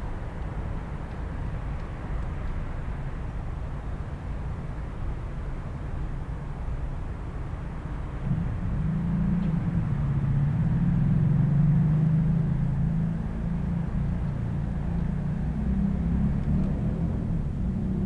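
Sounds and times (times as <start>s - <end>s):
traffic passing: 0.0s - 18.0s.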